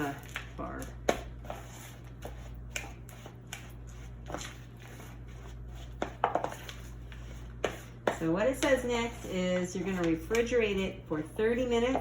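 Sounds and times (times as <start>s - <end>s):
spoon stirring sticky mixture: 0.0s - 12.0s
steady low hum: 0.0s - 12.0s.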